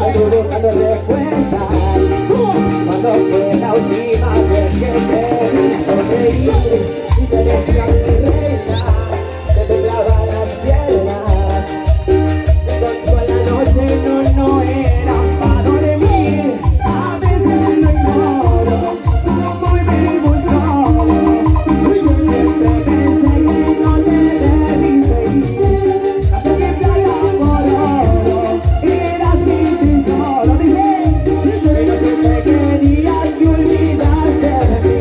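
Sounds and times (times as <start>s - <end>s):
keyboard melody: 0.0s - 35.0s
live band playing dance music: 0.0s - 35.0s
shaken percussion: 0.0s - 35.0s
thumping bass beat: 0.0s - 35.0s.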